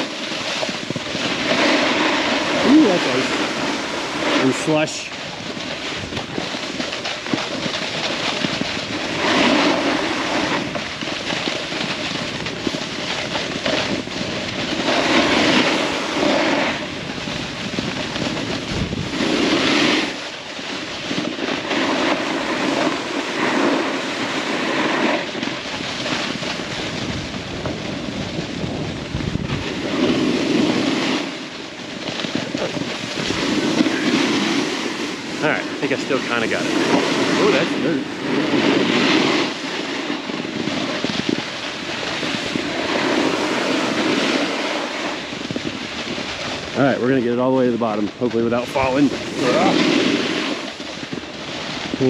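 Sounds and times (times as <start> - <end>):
skis scraping on icy slope: 0.0 - 52.0
wind rushing over microphone: 0.0 - 52.0.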